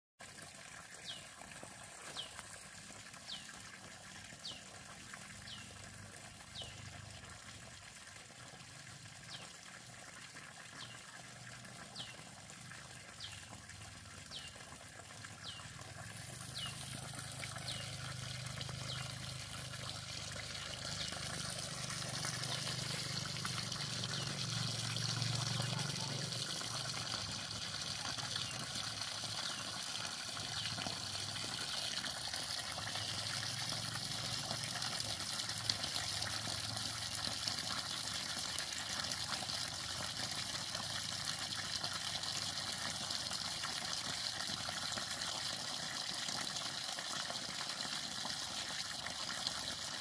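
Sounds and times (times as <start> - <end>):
water pouring and splashing: 0.2 - 50.0.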